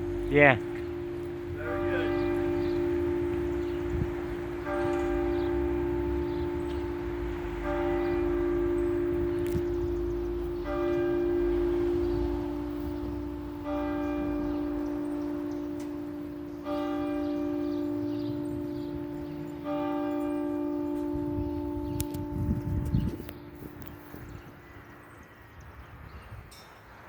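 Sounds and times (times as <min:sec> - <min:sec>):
church bell tolling: 0:00.0 - 0:25.4.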